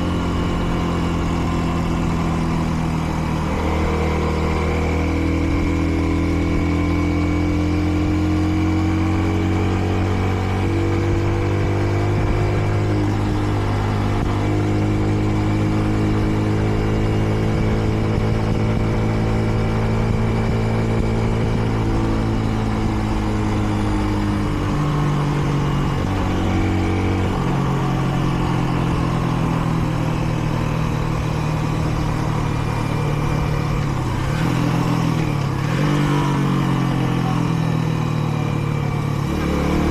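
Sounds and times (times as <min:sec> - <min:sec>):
motorcycle engine running: 0:00.0 - 0:39.9
road noise: 0:00.0 - 0:39.9
wind: 0:00.0 - 0:39.9.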